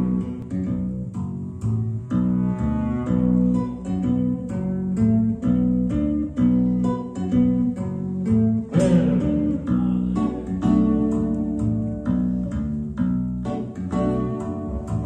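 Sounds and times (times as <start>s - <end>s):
tapped stringed instrument: 0.0s - 12.8s.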